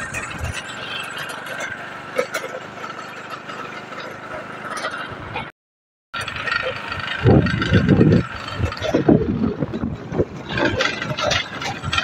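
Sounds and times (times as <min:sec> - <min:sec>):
motorcycle engine running: 0:00.0 - 0:05.5, 0:06.2 - 0:12.0.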